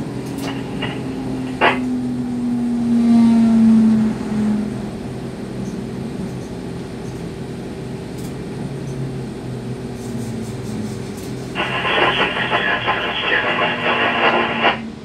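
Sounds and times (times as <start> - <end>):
traction equipment drone: 0.0 - 15.0
train running slowly: 0.0 - 15.0.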